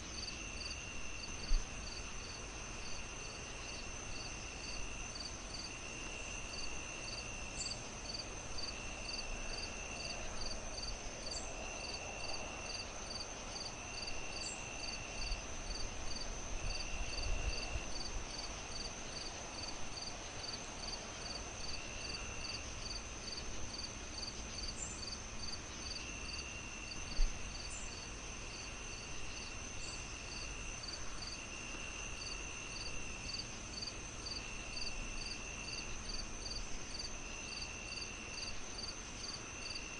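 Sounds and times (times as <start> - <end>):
crickets chirping: 0.0 - 39.9
low insect trill: 0.0 - 39.9
soft low hiss: 0.0 - 39.9
high insect tone: 0.1 - 39.9.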